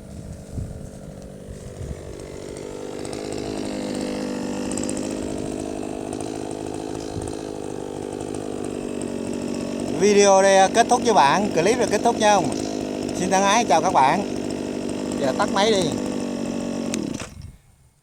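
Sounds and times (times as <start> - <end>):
brush cutter engine revving: 0.0 - 17.6.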